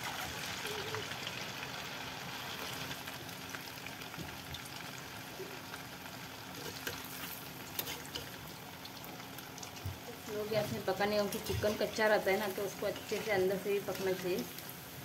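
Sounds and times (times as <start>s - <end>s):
patties deep-frying in oil: 0.0s - 15.0s.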